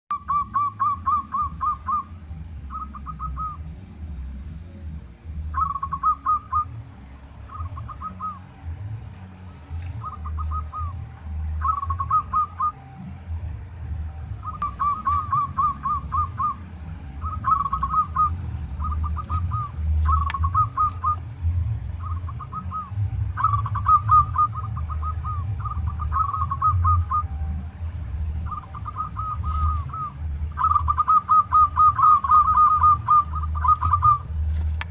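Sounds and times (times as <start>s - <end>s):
dove cooing: 0.1s - 34.8s
low rumble: 0.4s - 34.9s.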